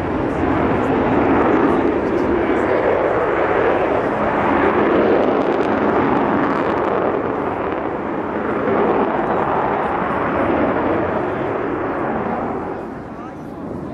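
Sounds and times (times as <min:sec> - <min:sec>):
jet bomber engines roaring: 0:00.0 - 0:13.9.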